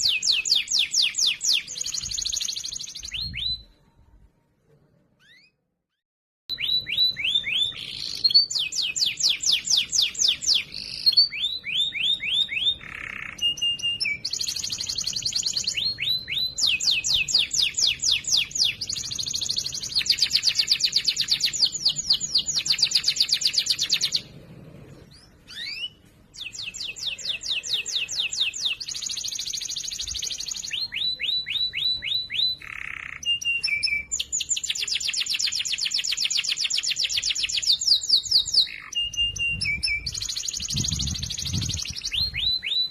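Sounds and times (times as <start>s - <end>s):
canary singing: 0.0s - 3.7s, 5.2s - 5.6s, 6.5s - 42.9s.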